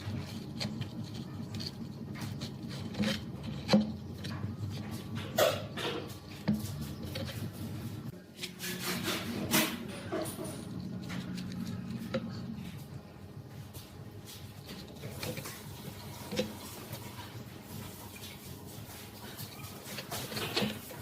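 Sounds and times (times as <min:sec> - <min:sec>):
rubbing and scraping strokes: 0:00.0 - 0:21.0
steady low hum: 0:00.0 - 0:21.0.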